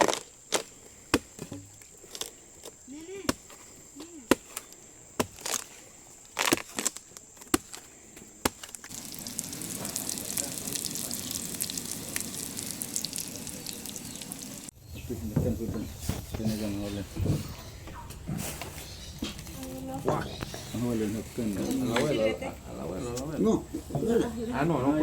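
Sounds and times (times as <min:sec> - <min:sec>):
steady crackling hiss: 0:00.0 - 0:17.1, 0:18.4 - 0:25.0.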